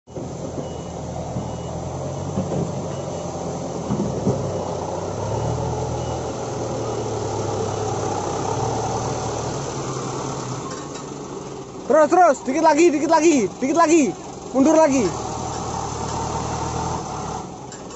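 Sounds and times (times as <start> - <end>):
heavy diesel engine running: 0.1 - 17.9.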